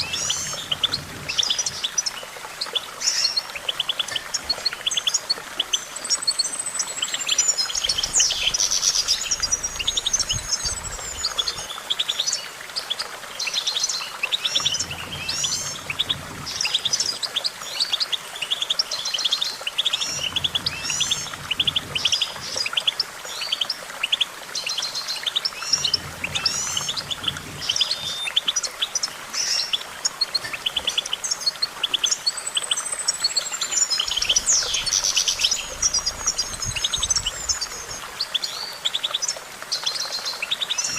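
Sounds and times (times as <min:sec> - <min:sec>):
goldfinch singing: 0:00.0 - 0:40.9.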